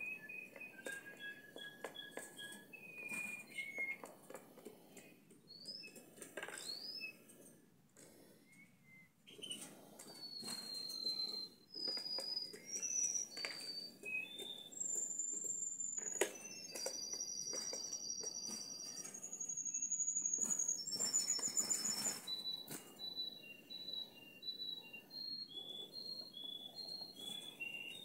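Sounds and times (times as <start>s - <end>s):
canary chirping and whistling: 0.0s - 7.4s, 8.3s - 28.0s.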